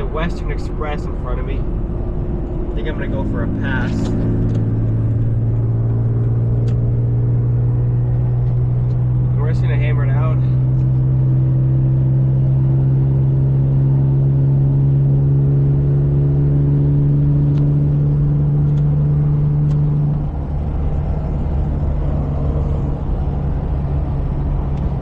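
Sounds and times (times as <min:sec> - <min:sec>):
car engine accelerating: 0:00.0 - 0:25.0
road rumble: 0:00.0 - 0:25.0.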